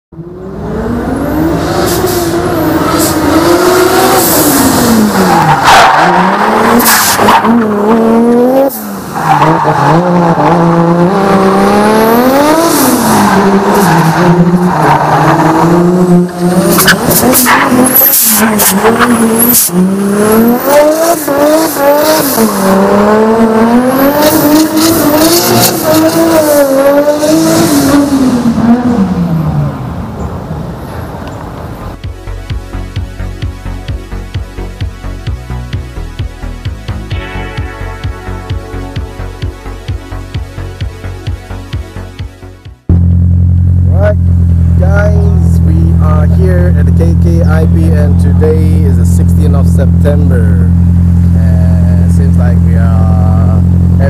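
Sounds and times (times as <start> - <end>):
car engine revving: 0.2 - 32.1, 38.0 - 54.0.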